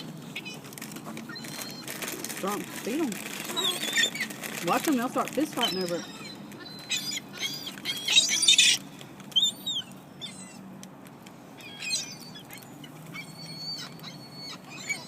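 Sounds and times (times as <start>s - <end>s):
small birds chirping: 0.0s - 10.8s, 11.4s - 15.0s.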